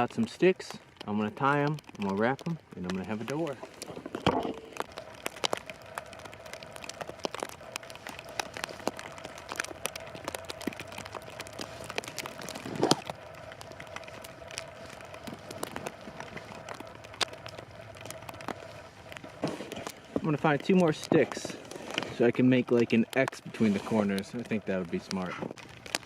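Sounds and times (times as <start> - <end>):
plastic wrap crinkling: 0.6 - 26.0.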